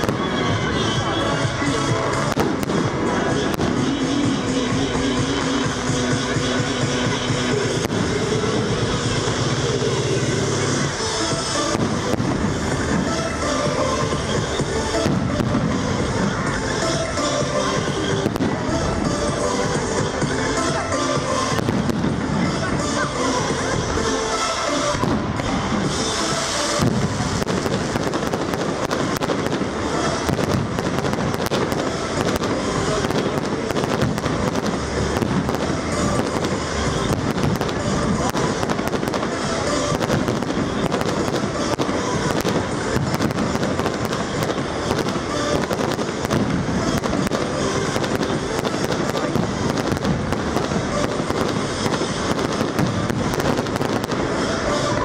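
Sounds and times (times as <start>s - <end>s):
fireworks crackling and popping: 0.0s - 55.0s
music: 0.0s - 55.0s.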